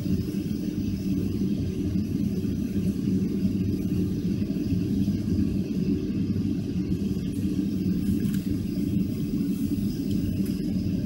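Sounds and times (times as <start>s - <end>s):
jet engines rumbling at idle: 0.0s - 11.0s.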